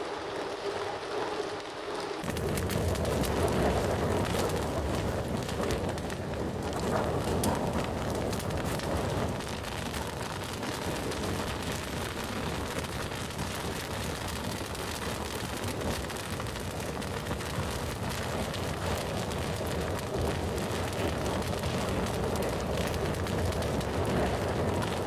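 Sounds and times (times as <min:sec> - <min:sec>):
bonfire flames rushing: 0:00.0 - 0:25.0
fire crackling and popping: 0:00.0 - 0:25.0.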